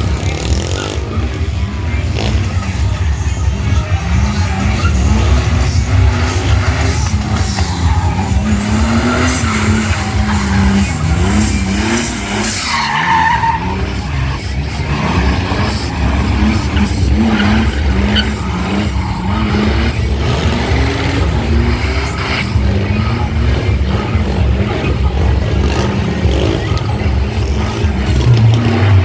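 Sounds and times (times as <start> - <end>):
car engine at high revs: 0.0 - 29.0
tyres screeching: 3.8 - 29.0.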